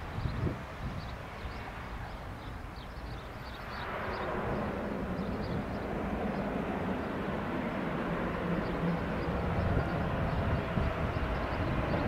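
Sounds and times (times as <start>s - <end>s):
turboprop engines and propellers: 0.0s - 12.0s.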